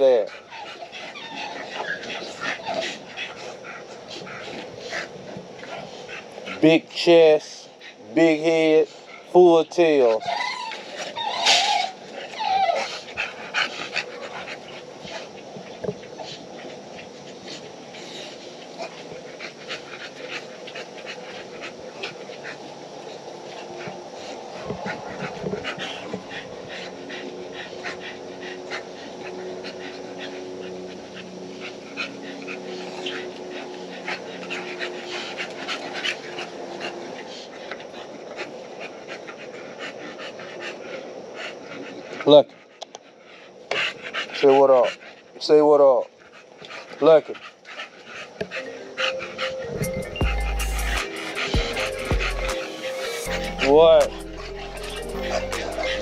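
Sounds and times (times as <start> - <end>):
dogs panting: 0.0 - 56.0.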